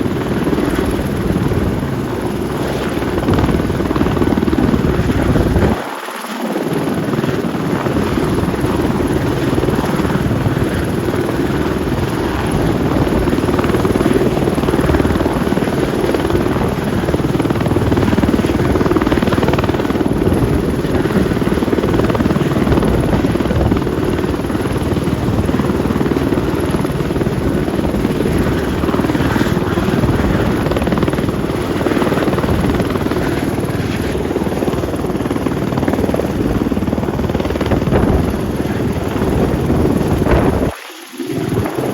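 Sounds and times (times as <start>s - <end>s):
helicopter turbine whine and rotor: 0.0s - 41.9s.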